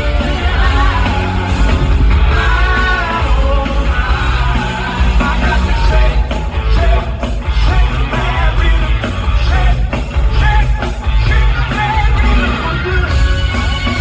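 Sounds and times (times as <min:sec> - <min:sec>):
bass: 0:00.0 - 0:14.0
distorted electric guitar: 0:00.0 - 0:14.0
drums: 0:00.0 - 0:14.0.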